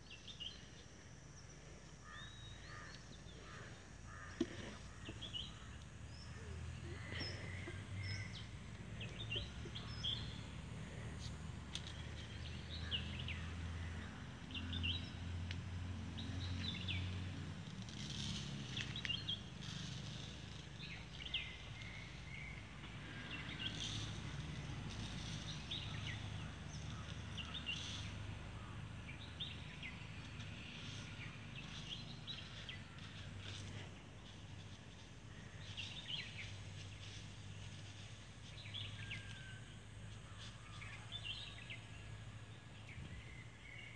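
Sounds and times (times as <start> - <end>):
rustles: 0.0 - 43.9
small birds chirping: 0.0 - 43.9.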